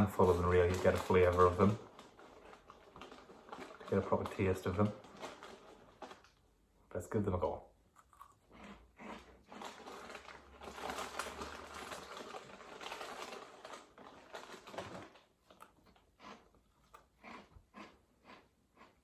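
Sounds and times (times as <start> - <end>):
crunching and chewing crisps: 0.0 - 6.6, 7.2 - 19.0.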